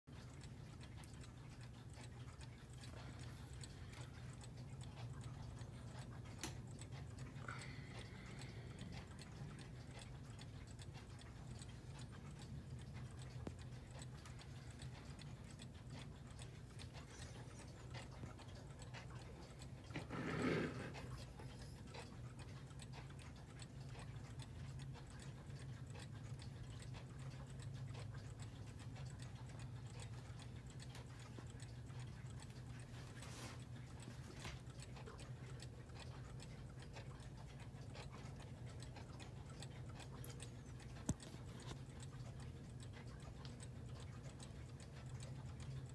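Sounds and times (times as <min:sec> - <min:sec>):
clocks ticking: 0:00.1 - 0:45.9
low room hum: 0:00.1 - 0:45.9.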